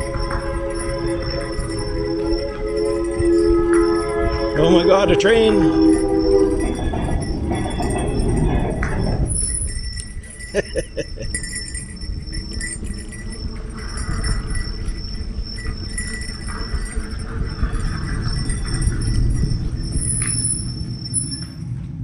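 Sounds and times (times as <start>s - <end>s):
metallic jingling: 0.0s - 21.6s
high ringing tones: 0.0s - 21.7s
low train rumble: 0.0s - 22.0s.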